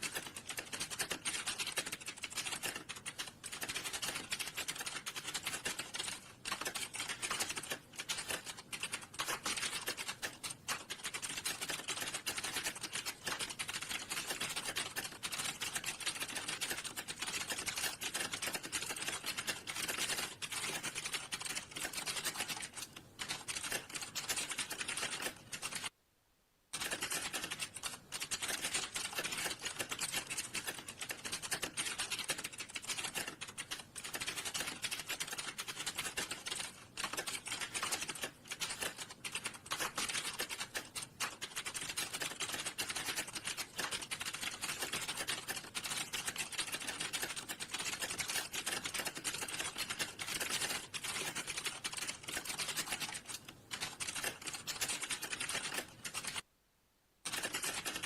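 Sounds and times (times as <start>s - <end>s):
typing on computer keyboard: 0.0s - 25.9s, 26.7s - 56.5s, 57.2s - 58.0s.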